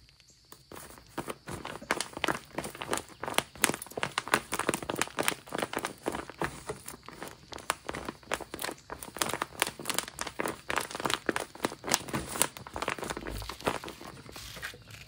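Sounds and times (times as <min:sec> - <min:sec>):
plastic covering crinkling: 0:00.5 - 0:15.0.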